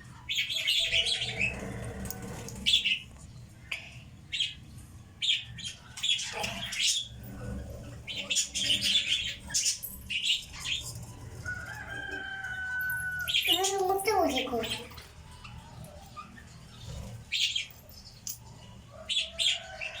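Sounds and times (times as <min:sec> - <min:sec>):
lovebirds chirping: 0:00.2 - 0:20.0.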